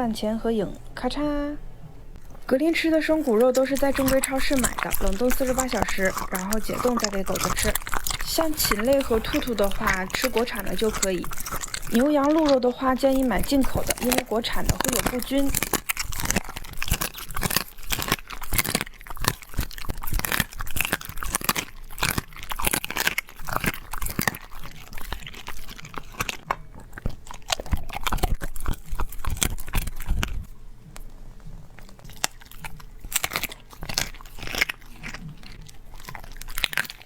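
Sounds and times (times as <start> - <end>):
dog crunching bones: 2.0 - 37.0.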